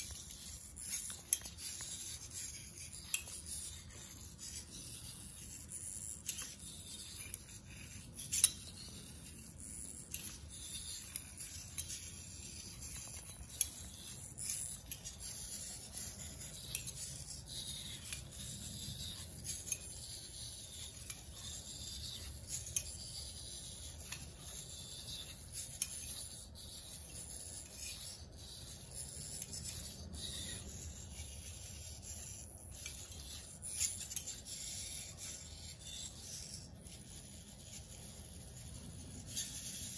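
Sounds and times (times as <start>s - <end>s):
servo motors whirring: 0.0s - 39.9s.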